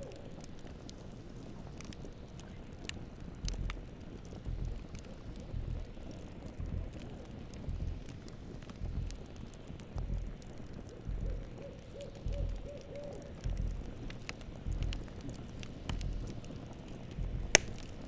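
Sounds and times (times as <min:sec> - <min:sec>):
burning wood popping: 0:00.0 - 0:18.0
campfire crackling: 0:00.0 - 0:18.0.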